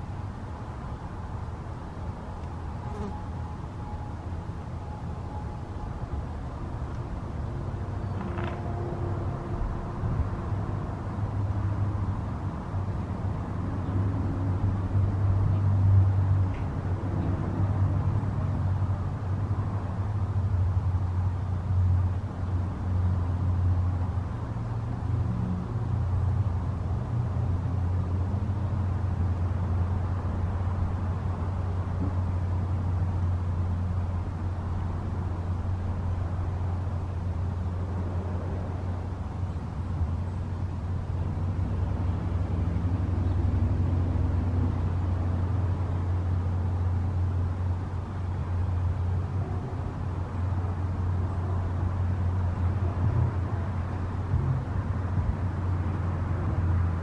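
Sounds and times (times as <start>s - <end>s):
distant road traffic rumble: 0.0s - 57.0s
faint engine hums: 0.0s - 57.0s.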